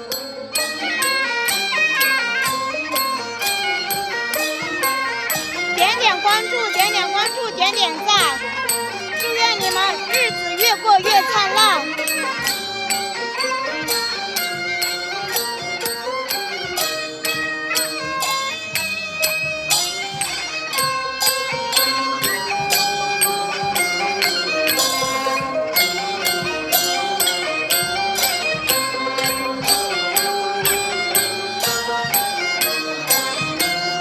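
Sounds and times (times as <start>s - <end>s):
traditional chinese-style music: 0.0s - 34.0s.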